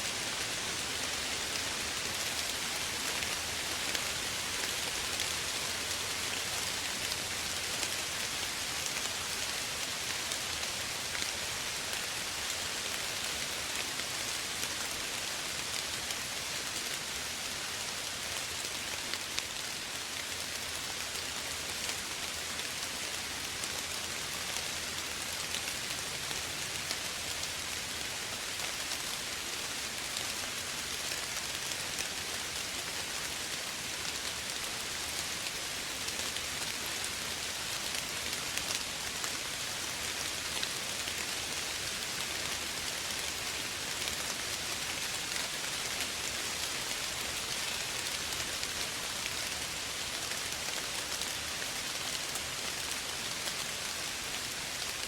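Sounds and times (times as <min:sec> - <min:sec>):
gentle rain falling: 0:00.0 - 0:55.0.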